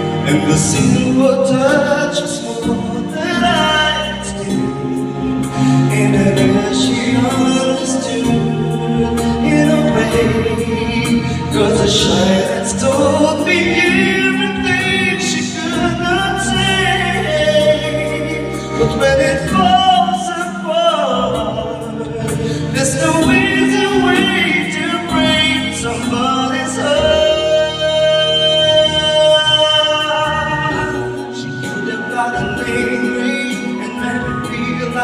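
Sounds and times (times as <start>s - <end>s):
slow ballad backing track: 0.0s - 35.0s
wordless singing: 0.0s - 35.0s.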